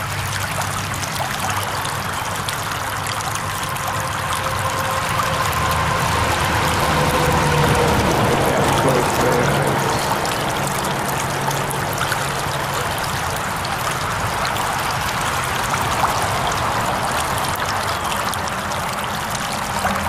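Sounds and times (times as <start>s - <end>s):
stream flowing over stones: 0.0s - 20.0s.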